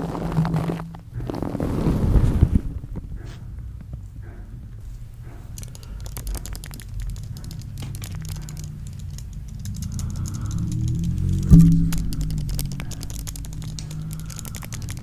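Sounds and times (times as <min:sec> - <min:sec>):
low steady music tones: 0:00.0 - 0:15.0.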